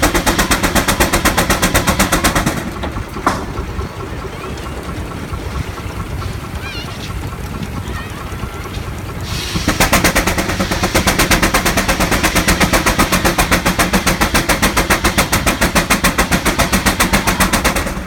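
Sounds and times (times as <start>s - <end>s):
steady low rumble: 0.0s - 18.0s
steam engine chuffing: 0.0s - 18.0s.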